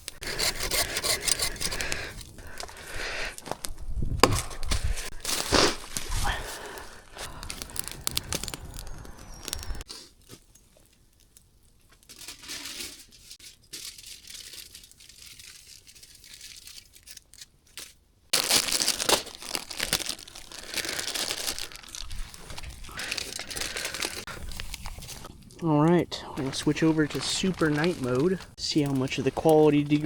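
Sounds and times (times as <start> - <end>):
material crinkling and rustling: 4.7 - 25.7, 26.4 - 30.0.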